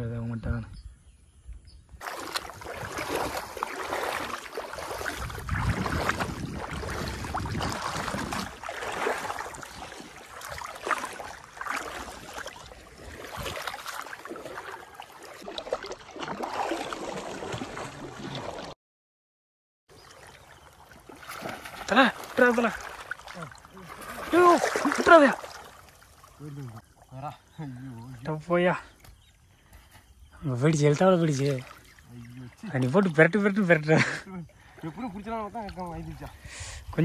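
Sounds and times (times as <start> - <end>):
water sloshing and splashing: 2.0 - 18.8, 19.9 - 37.0.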